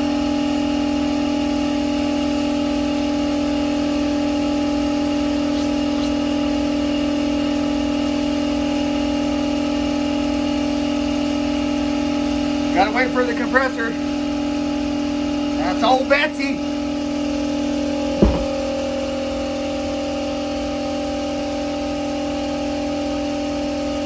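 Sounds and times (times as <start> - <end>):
air compressor motor hum: 0.0 - 24.0.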